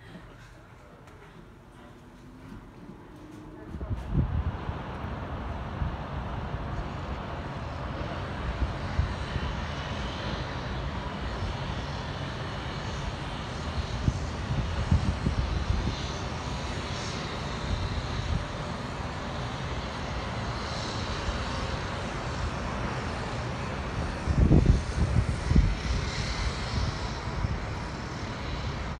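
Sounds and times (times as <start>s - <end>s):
wind on microphone: 2.6s - 29.0s.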